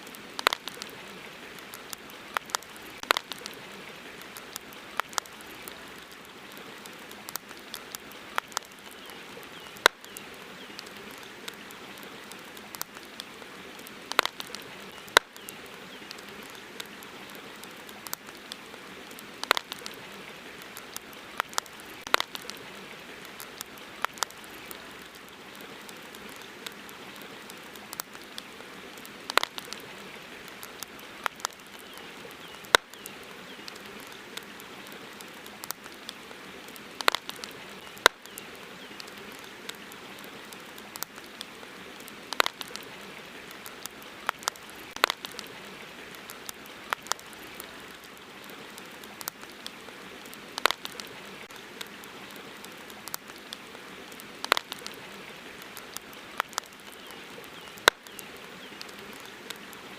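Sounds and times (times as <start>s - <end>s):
campfire crackling: 0.0s - 59.9s
soft steady hiss: 0.0s - 59.9s.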